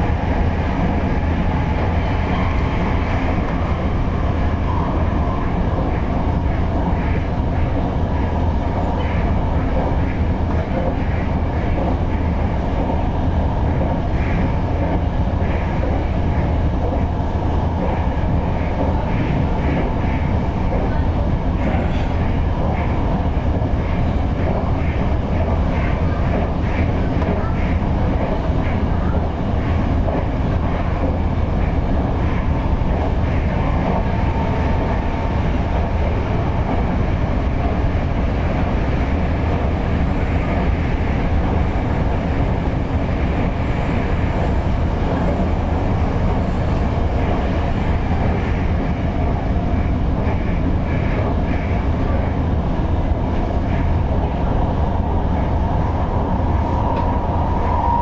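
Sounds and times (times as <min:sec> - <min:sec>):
faint whine: 0:00.0 - 0:58.0
train wheels rumbling on rails: 0:00.0 - 0:58.0.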